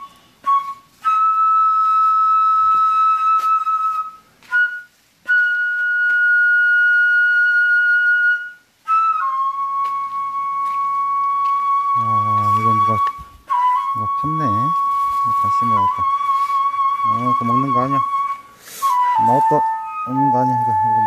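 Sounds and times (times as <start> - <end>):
flute playing slow held notes: 0.0 - 21.0.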